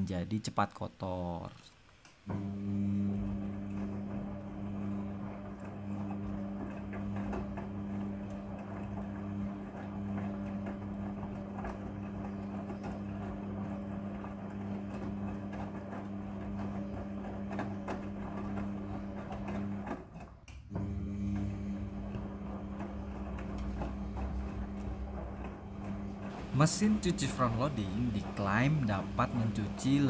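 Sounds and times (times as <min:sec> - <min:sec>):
washing machine motor hum: 0:02.2 - 0:30.0.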